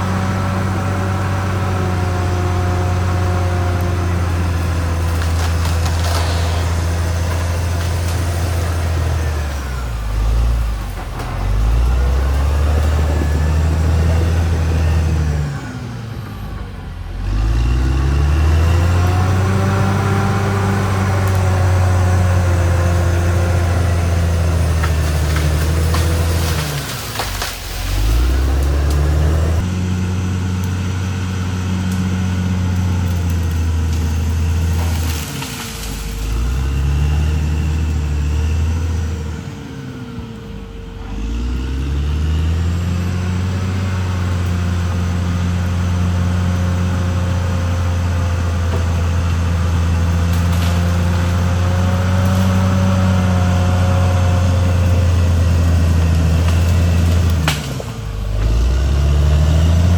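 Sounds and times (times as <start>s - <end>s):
bulldozer diesel engine working hard: 0.0s - 59.9s.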